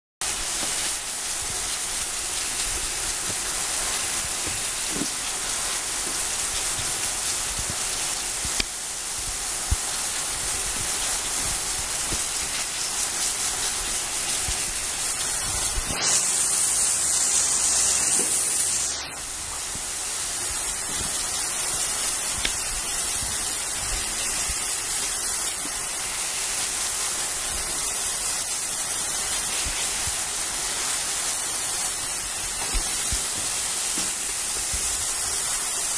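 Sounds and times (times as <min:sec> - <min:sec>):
high-pressure water jet hissing: 0:00.2 - 0:35.9.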